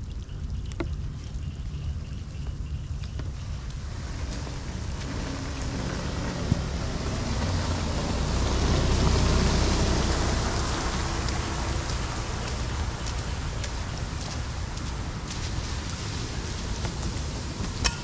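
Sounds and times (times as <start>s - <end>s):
splashing water: 0.0s - 18.0s
rain on flooded road: 2.5s - 18.0s.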